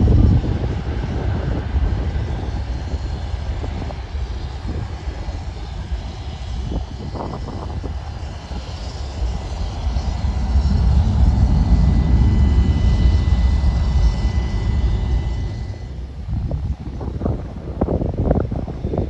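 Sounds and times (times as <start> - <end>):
aircraft engine rumble: 0.0 - 19.0
high engine whine: 0.0 - 19.0.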